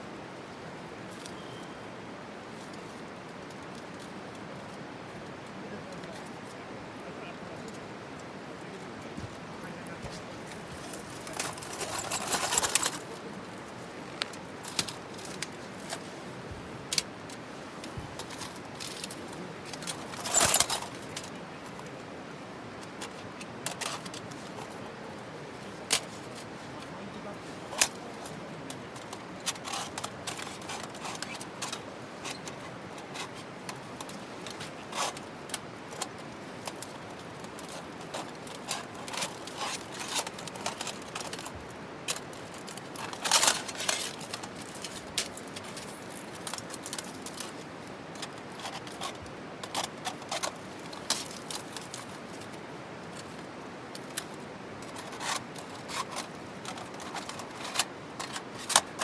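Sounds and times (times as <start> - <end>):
steady low hiss: 0.0 - 59.0.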